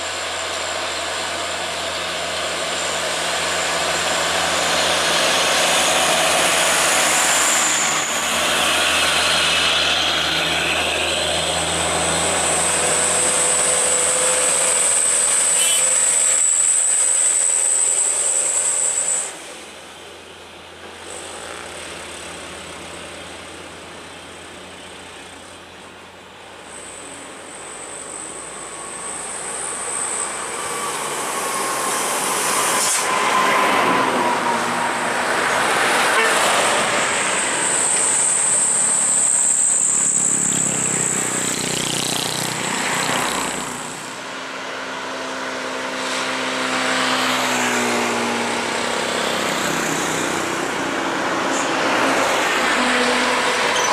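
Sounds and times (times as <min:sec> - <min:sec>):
diesel trucks passing: 0:00.0 - 0:53.9.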